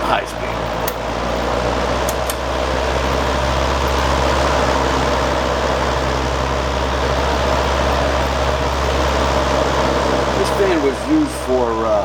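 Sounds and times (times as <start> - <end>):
box fan rushing air: 0.0 - 12.0
low motor hum: 0.0 - 12.0.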